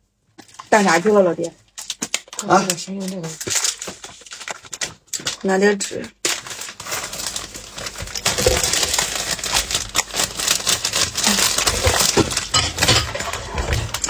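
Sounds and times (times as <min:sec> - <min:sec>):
plastic bottle crinkling and clicking: 0:00.4 - 0:14.0.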